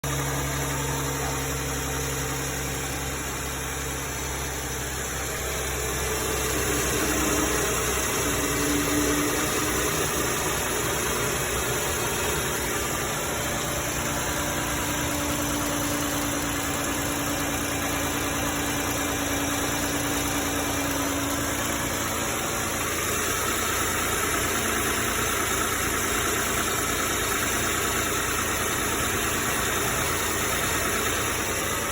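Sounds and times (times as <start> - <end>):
car engine idling: 0.0 - 31.9
engine ticking: 0.0 - 31.9.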